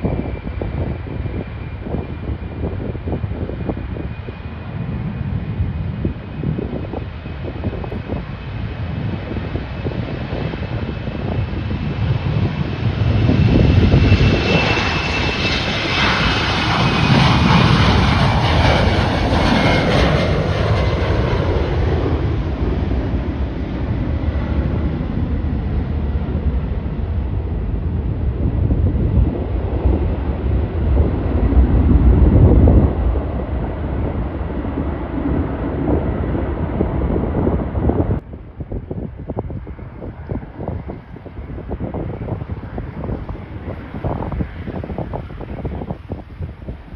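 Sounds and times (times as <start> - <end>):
airliner engines passing: 0.0 - 46.9.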